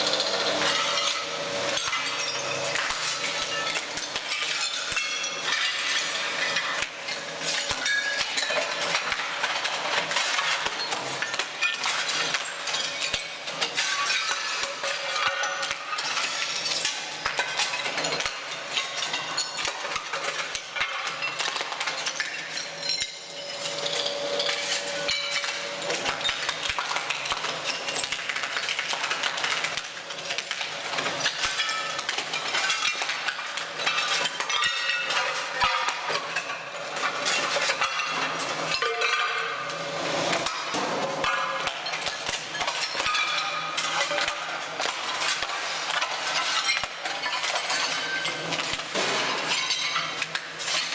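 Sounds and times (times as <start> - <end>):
ceramic tiles cracking and clinking: 0.0 - 50.9.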